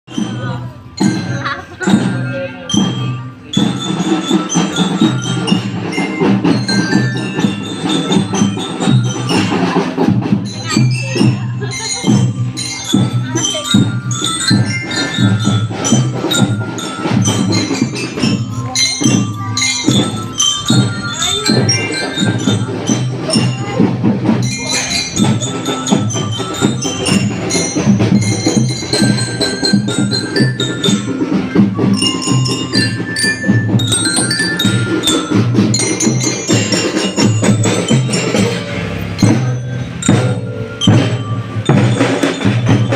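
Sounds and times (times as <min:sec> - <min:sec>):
drums and knocking percussion: 0:00.0 - 0:42.9
metallic mallet percussion music: 0:00.1 - 0:42.9.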